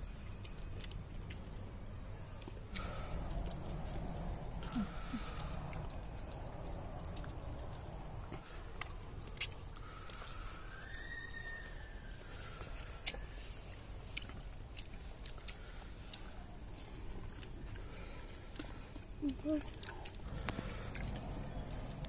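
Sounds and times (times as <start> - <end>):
people chewing with mouth smacks: 0.0 - 22.0.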